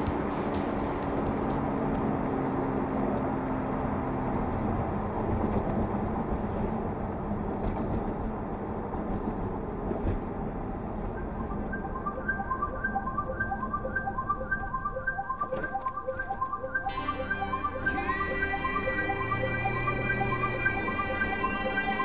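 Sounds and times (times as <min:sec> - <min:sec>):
road and engine noise: 0:00.0 - 0:22.0.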